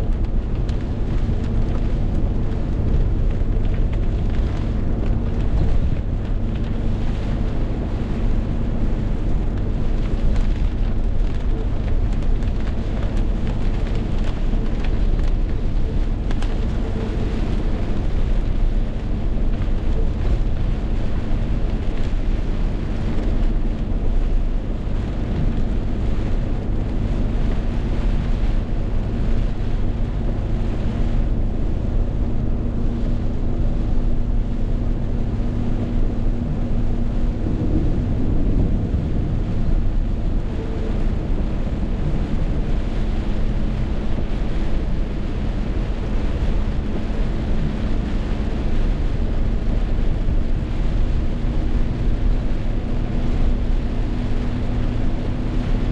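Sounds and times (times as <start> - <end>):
wind and rain on microphone: 0.0 - 55.9.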